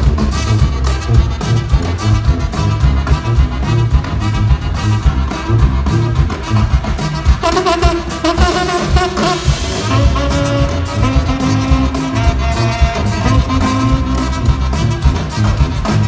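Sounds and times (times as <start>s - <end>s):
fast dense drumming: 0.0s - 16.0s
jazz band playing: 0.0s - 16.0s
saxophone: 0.0s - 16.0s
tuba bass line: 0.0s - 16.0s.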